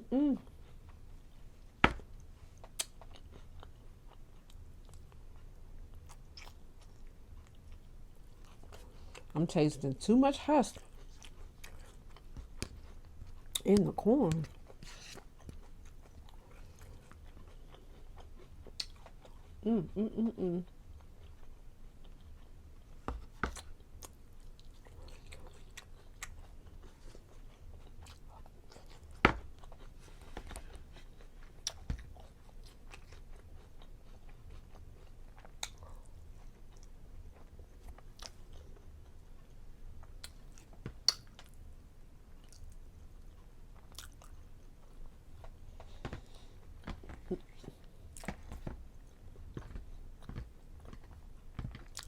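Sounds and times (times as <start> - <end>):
person chewing: 2.0 - 9.3, 10.7 - 41.6, 42.4 - 52.0.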